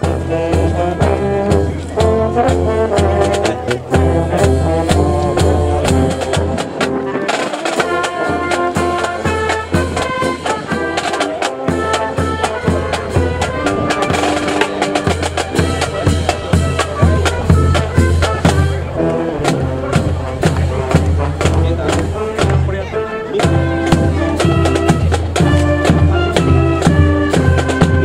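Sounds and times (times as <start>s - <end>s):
marching band brass: 0.0s - 28.0s.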